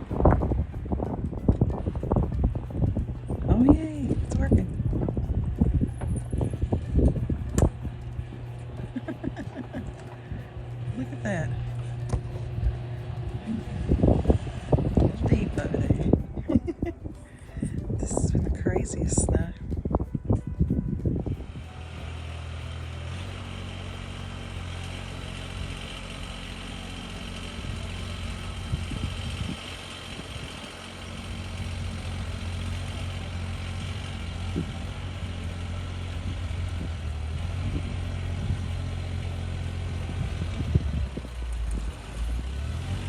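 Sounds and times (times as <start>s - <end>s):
engine idling: 0.0s - 43.0s.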